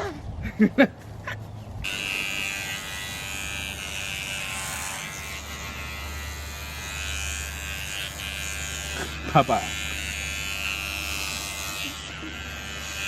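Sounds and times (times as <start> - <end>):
electric hair clippers buzzing: 1.8 - 13.0.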